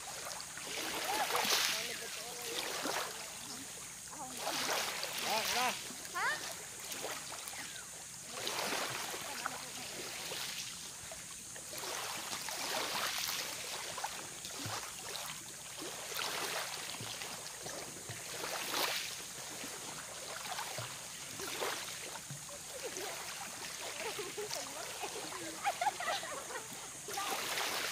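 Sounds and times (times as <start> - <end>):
small waves lapping at shore: 0.0 - 27.9.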